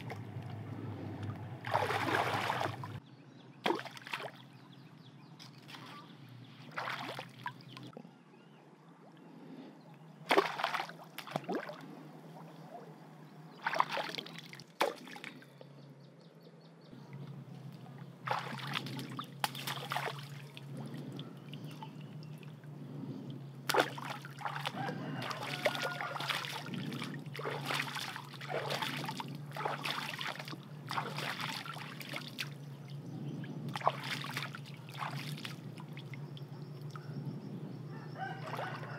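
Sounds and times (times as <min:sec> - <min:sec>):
splashing in shallow water: 0:00.0 - 0:03.0, 0:03.6 - 0:04.6, 0:05.4 - 0:08.1, 0:10.2 - 0:15.8, 0:17.1 - 0:37.2, 0:38.1 - 0:38.9.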